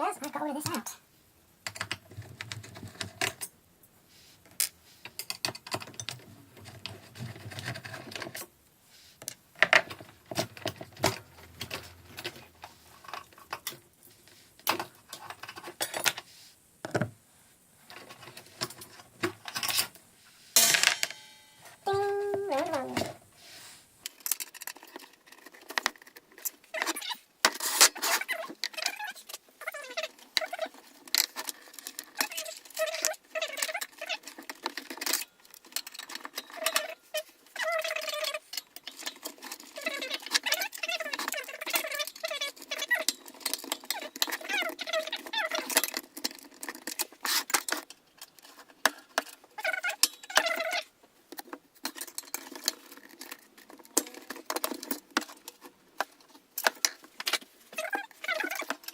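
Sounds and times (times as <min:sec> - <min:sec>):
clicks and rattles of metal and plastic: 0:01.6 - 0:03.6, 0:04.4 - 0:08.5, 0:09.2 - 0:13.9, 0:14.6 - 0:17.2, 0:17.8 - 0:20.0, 0:24.0 - 0:58.9.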